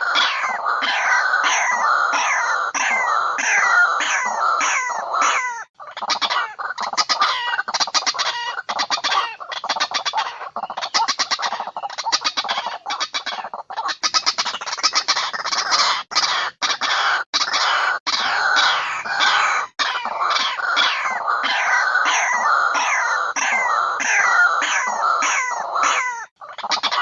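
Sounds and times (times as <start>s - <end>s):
bird calling harsh notes: 0.0s - 27.0s.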